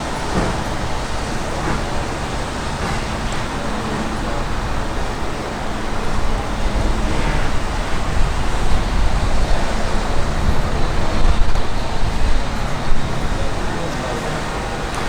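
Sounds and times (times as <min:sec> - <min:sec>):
steam locomotive running: 0:00.0 - 0:15.0.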